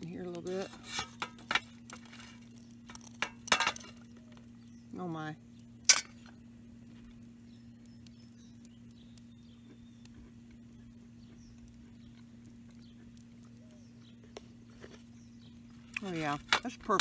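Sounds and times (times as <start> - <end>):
steady low hum: 0.0 - 17.0
distant birds chirping: 1.3 - 17.0.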